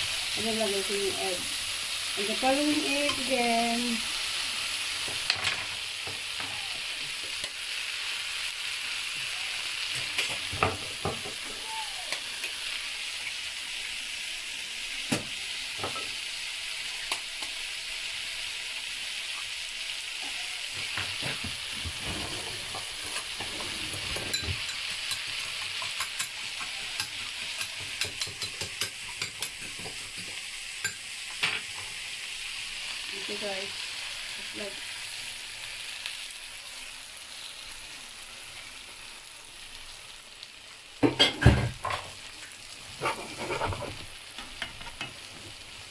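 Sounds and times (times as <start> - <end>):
potatoes sizzling in frying pan: 0.0 - 45.9.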